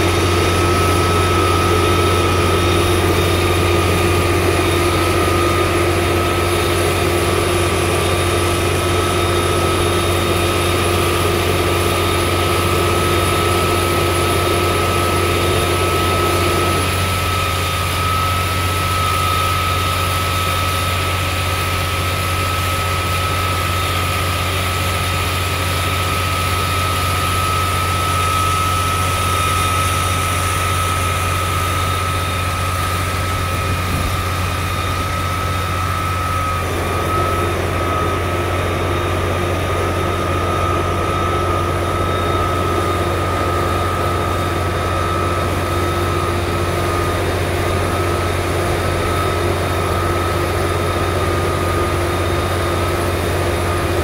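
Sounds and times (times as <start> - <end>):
diesel engine idling: 0.0 - 21.4, 24.0 - 54.0
steady high whine: 0.0 - 54.0.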